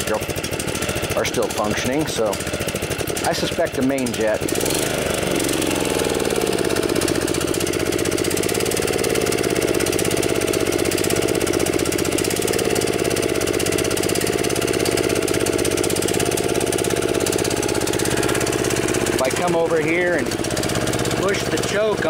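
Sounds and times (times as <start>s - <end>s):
small engine running at low speed: 0.0s - 22.0s.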